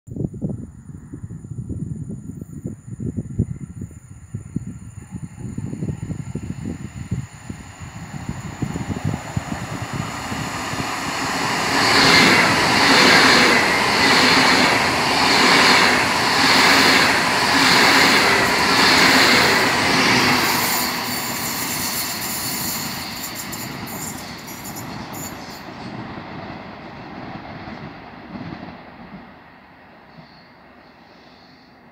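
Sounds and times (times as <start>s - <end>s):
train passing: 3.1s - 31.9s.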